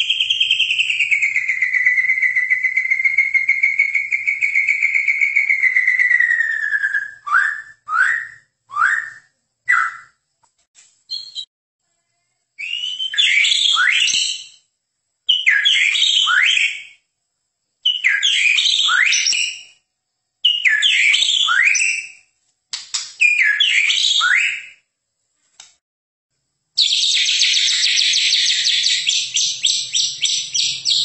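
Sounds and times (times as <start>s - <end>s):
bird singing whistled notes: 0.0s - 10.2s, 11.1s - 11.5s, 12.6s - 17.1s, 17.8s - 19.8s, 20.4s - 22.3s, 23.2s - 24.9s, 26.8s - 31.0s.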